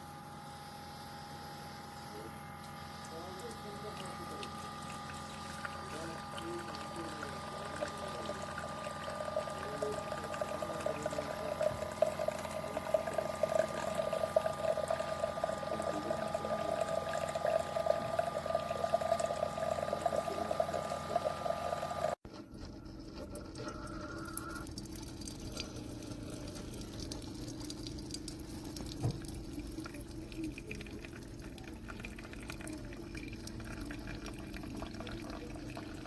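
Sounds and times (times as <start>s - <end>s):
coffee maker pump hum: 0.0s - 36.0s
coffee streaming into cup: 2.2s - 36.0s.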